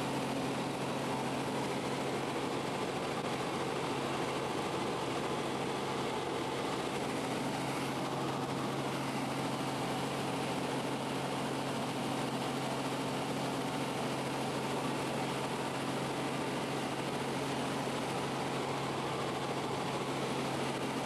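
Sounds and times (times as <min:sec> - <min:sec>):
helicopter engine and rotors drone: 0:00.0 - 0:21.0.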